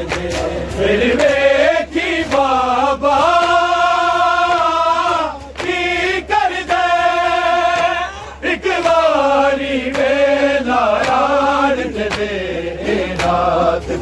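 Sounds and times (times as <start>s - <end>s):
men chanting together: 0.0s - 14.0s.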